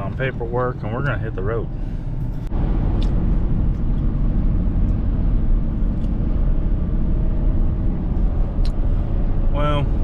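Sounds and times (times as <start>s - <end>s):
truck diesel engine rumbling: 0.0s - 10.0s.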